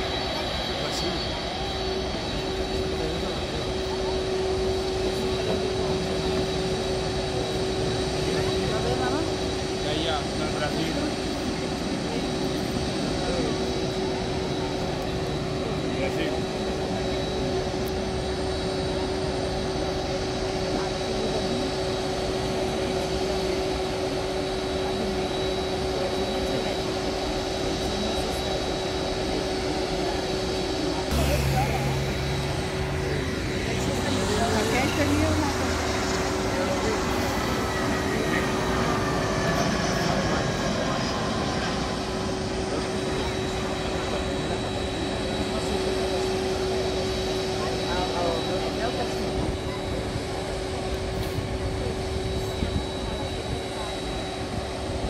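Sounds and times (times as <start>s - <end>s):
jet engines taxiing: 0.0s - 55.0s.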